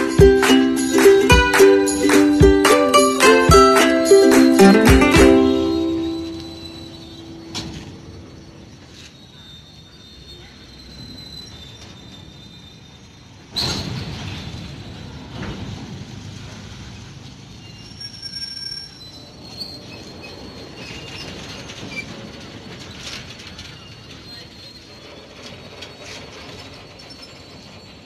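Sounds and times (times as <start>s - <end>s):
freight train rumble: 0.0s - 9.4s, 13.2s - 28.0s
train wheels squealing: 4.0s - 28.0s.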